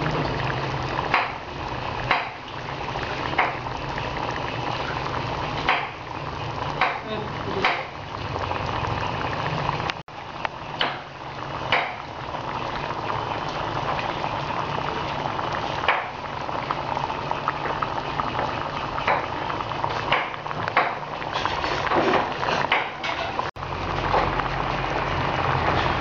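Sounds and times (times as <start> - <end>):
water boiling hard in pot: 0.0 - 26.0.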